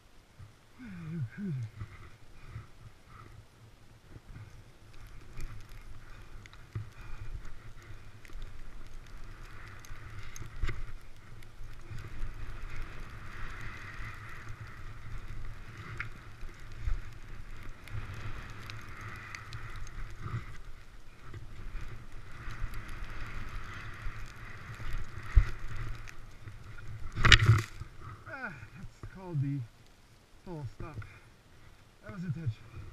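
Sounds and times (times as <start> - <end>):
skis scraping over snow: 1.8 - 29.6.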